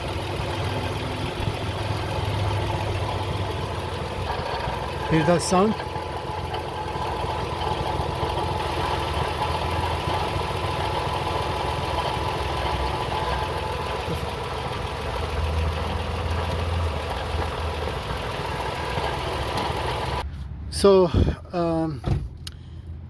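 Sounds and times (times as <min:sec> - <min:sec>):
car engine idling: 0:00.0 - 0:20.3
engine rattling: 0:00.0 - 0:20.3.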